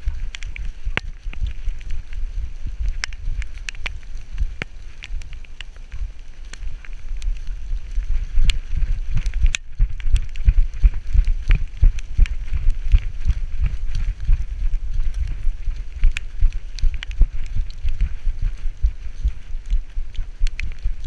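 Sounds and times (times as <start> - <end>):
camera bumping with strides: 0.0 - 21.0
leaves crackling underfoot: 0.0 - 21.0.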